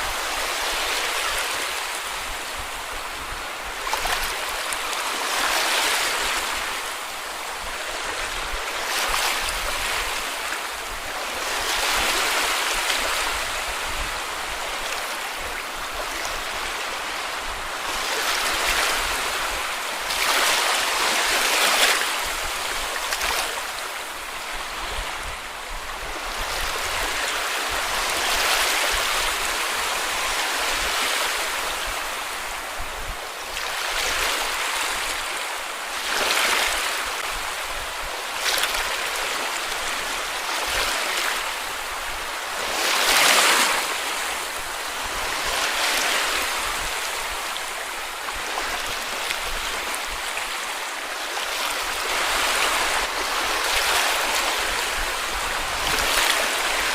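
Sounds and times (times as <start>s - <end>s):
small waves washing onto beach: 0.0s - 56.9s
surf hiss: 0.0s - 56.9s.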